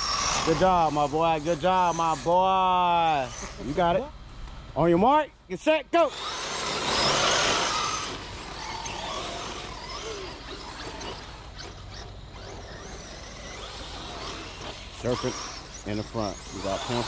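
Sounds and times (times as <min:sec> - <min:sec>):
toy truck motors whirring: 0:00.0 - 0:04.0, 0:06.0 - 0:17.0.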